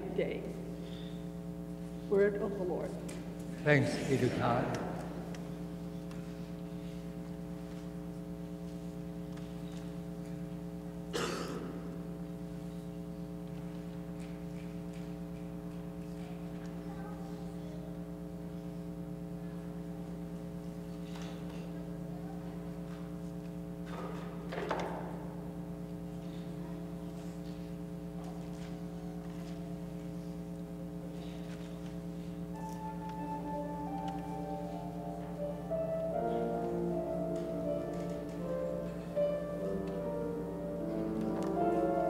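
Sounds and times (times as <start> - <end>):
steady hum of held tones: 0.0 - 42.0.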